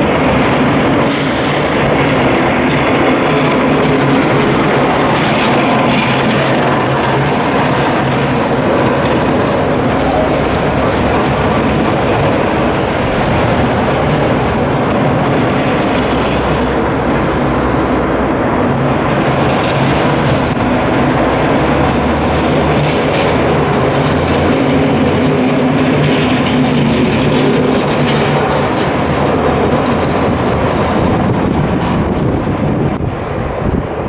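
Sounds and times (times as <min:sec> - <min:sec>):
low engine drone: 0:00.0 - 0:34.0
snowplow trucks rumbling: 0:00.0 - 0:34.0.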